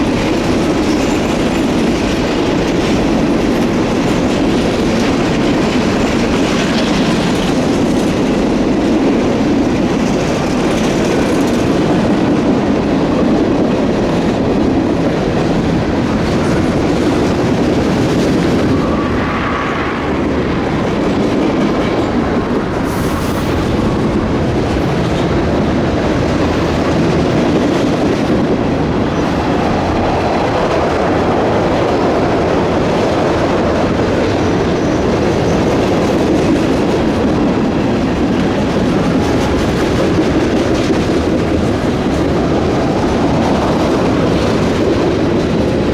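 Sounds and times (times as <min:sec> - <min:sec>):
train wheels clattering on rails: 0:00.0 - 0:45.9.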